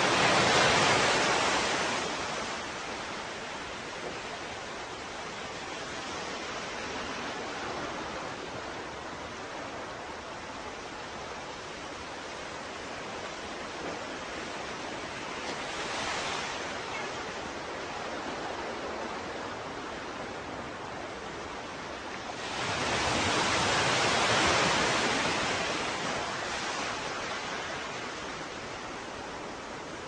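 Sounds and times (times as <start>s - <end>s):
surf hiss: 0.0s - 30.0s.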